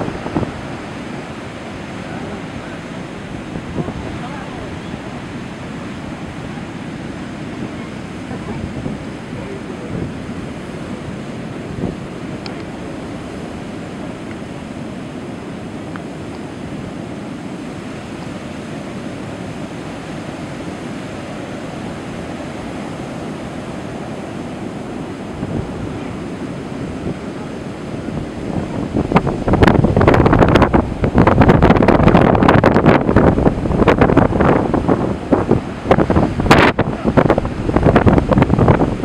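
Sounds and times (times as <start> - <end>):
surf breaking on beach: 0.0 - 39.0
wind buffeting microphone: 0.0 - 39.0.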